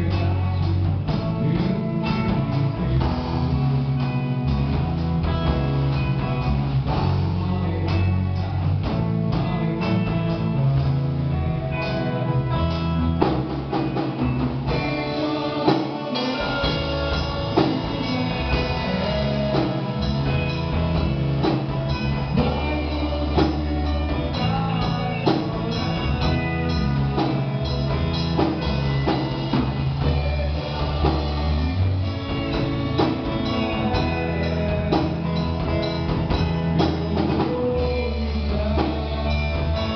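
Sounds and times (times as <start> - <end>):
rock band guitar and drums: 0.0 - 39.9.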